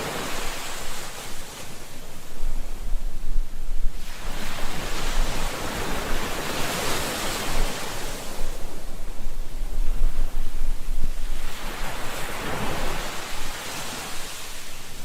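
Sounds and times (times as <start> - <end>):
low rumble of the sea: 0.0 - 15.0
wave washing in: 0.0 - 15.0.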